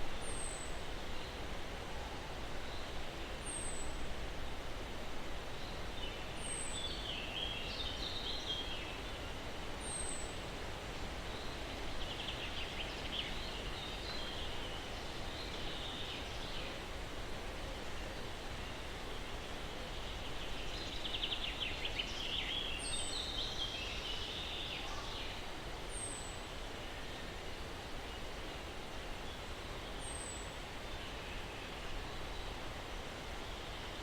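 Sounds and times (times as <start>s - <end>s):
breeze rustling through pine trees: 0.0s - 34.0s
songbirds calling: 0.1s - 1.6s, 2.5s - 17.0s, 17.7s - 34.0s.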